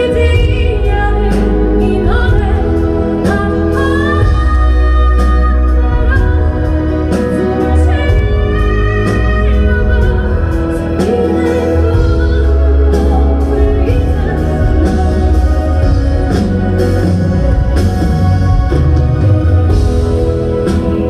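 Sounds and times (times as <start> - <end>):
live band with booming bass: 0.0 - 21.0
woman singing a ballad: 0.0 - 21.0.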